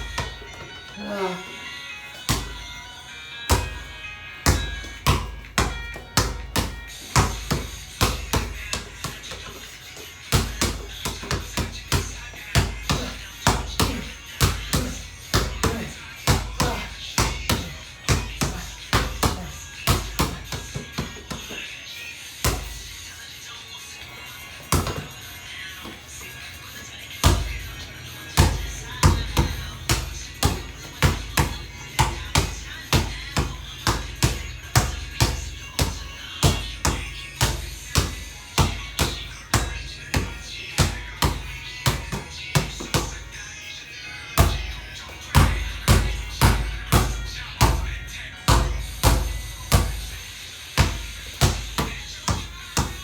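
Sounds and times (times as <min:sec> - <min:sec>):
basketball bouncing on court: 0:00.0 - 0:00.4, 0:02.3 - 0:02.7, 0:03.5 - 0:21.6, 0:22.4 - 0:22.8, 0:24.7 - 0:25.1, 0:27.2 - 0:43.3, 0:44.4 - 0:50.2, 0:50.8 - 0:53.0.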